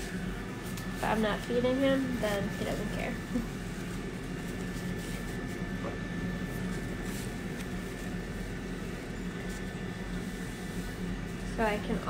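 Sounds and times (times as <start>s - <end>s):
air fryer fan hum: 0.0s - 12.0s.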